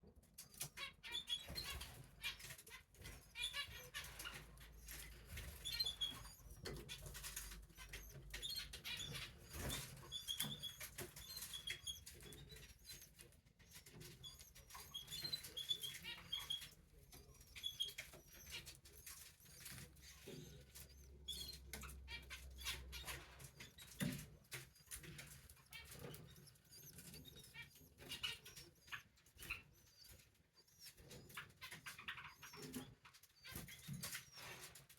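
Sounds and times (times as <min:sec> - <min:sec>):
rustling fluttering and scratching: 0:00.2 - 0:34.9
chicks cheeping: 0:00.5 - 0:34.9.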